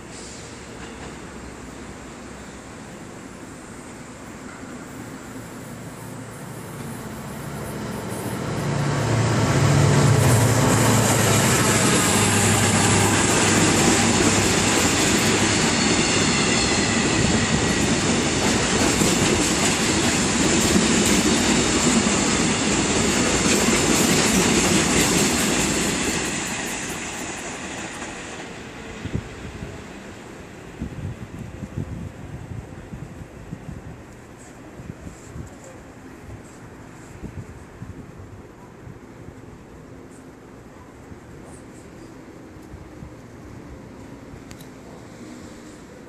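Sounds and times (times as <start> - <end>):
train wheels rumbling on rails: 0.0 - 38.3.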